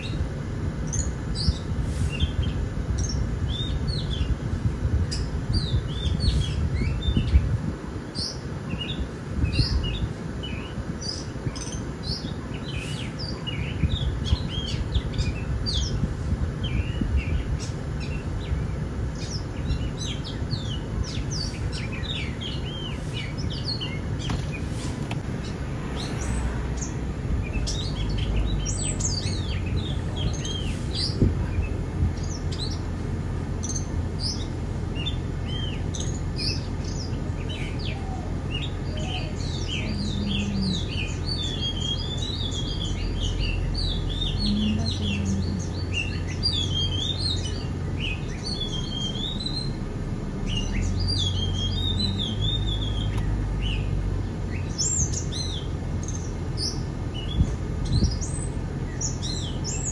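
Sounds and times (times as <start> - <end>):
small birds chirping: 0.0 - 59.9
steady low rumble: 8.6 - 59.9.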